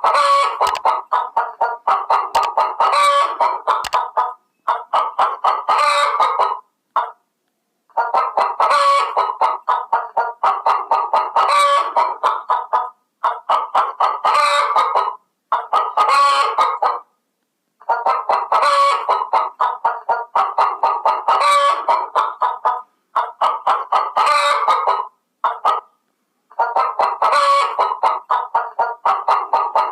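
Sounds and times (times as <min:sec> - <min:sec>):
chicken clucking: 0:00.0 - 0:07.2, 0:07.9 - 0:17.1, 0:17.8 - 0:29.9.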